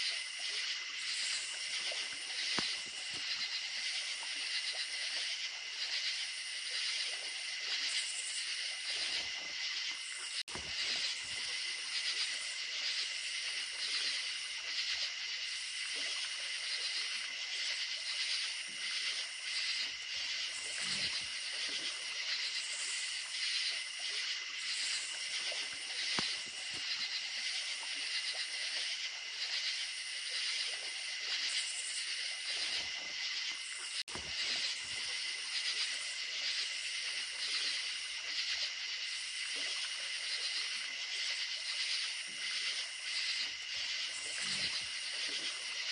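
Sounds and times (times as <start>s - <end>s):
crickets and insects chirring: 0.0s - 45.9s
running creek water: 0.0s - 45.9s.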